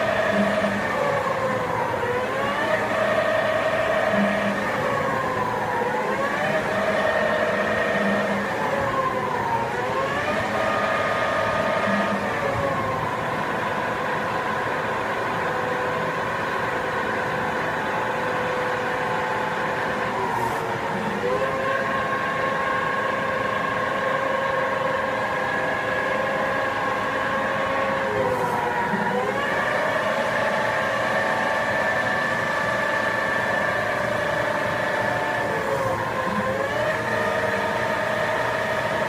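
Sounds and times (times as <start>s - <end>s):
lathe spindle whining: 0.0s - 39.0s.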